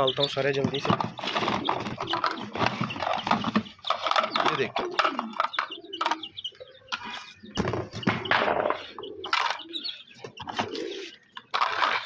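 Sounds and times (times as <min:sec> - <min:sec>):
birds calling: 0:00.0 - 0:12.0
plastic boxes clattering on concrete: 0:00.2 - 0:12.0.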